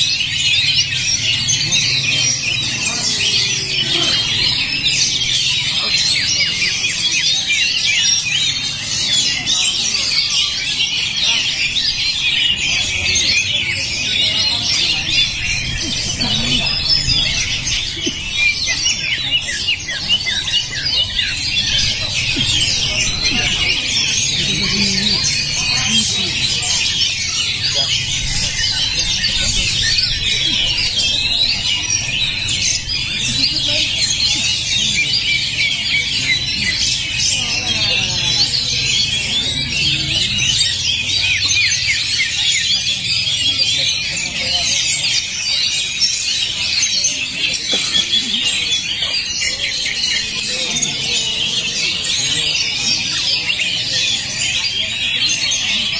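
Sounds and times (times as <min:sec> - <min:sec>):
birds singing chirps and trills: 0:00.0 - 0:55.9.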